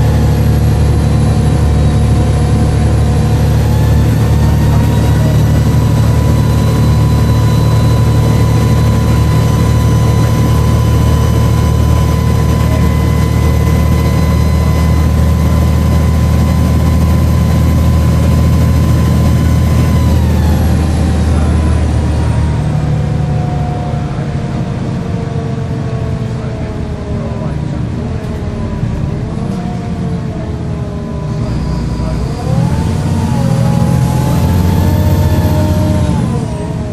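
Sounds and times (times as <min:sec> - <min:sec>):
diesel bus engine running: 0:00.0 - 0:36.9.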